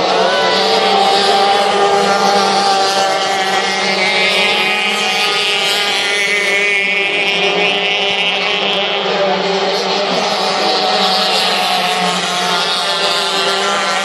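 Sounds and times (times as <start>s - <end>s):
racing outboard engines at high revs: 0.0s - 14.0s.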